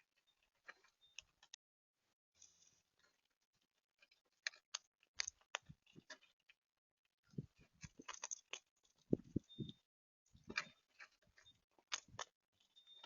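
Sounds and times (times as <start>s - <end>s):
animals pecking at bird feeder: 2.4s - 13.0s.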